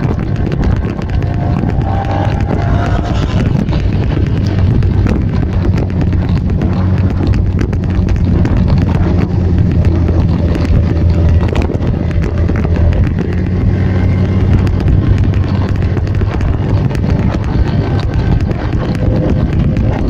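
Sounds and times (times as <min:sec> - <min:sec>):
scooter engines running: 0:00.0 - 0:20.0
wind buffeting microphone: 0:00.0 - 0:20.0.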